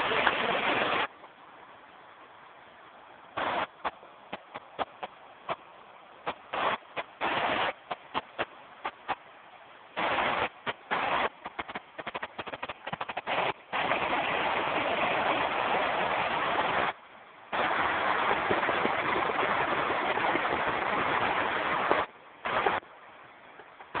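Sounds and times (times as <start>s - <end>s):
water falling and splashing: 0.0s - 1.1s, 3.3s - 9.3s, 9.9s - 22.8s, 23.4s - 24.0s.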